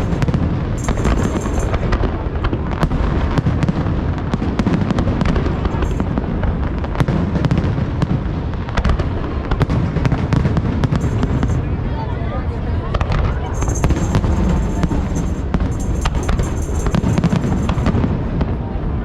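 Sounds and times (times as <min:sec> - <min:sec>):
fireworks barrage: 0:00.0 - 0:11.8, 0:12.9 - 0:18.6.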